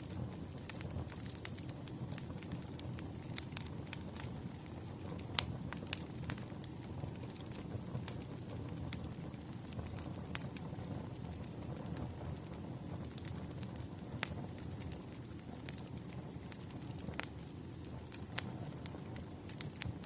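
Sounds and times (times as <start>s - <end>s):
firewood crackling: 0.0s - 20.0s.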